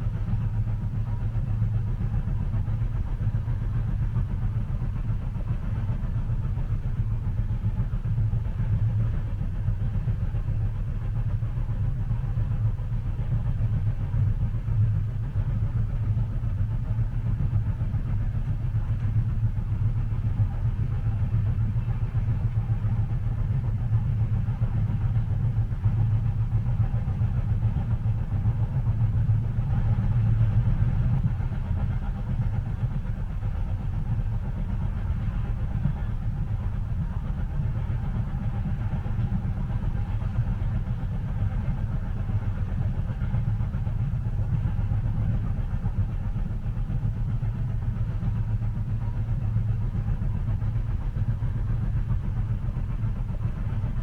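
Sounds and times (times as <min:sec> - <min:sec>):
train rumbling inside cabin: 0:00.0 - 0:54.0.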